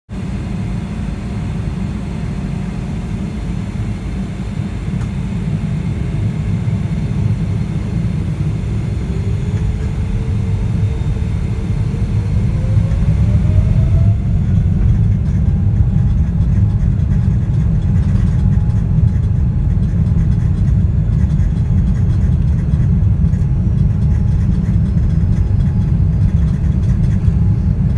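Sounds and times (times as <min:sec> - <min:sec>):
jet engine rumble and whine: 0:00.1 - 0:27.9.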